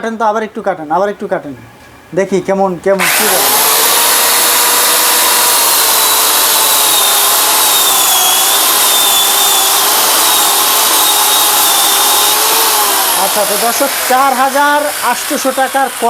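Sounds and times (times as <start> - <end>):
electric chainsaw cutting wood: 3.0 - 16.0.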